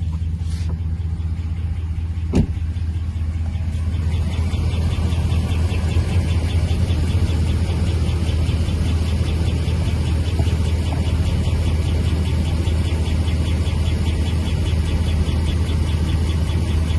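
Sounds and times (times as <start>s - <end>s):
car engine idling: 0.0s - 16.9s
fast even engine ticking: 0.0s - 16.9s.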